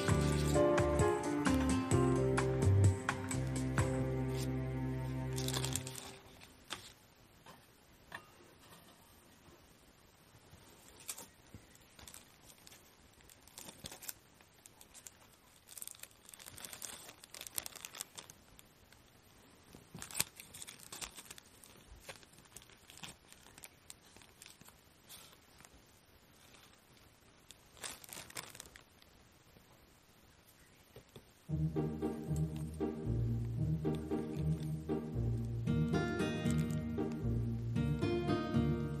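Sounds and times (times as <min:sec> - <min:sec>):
rustling and crinkling: 0:00.0 - 0:01.9, 0:04.2 - 0:09.7, 0:10.3 - 0:29.8, 0:32.1 - 0:37.4.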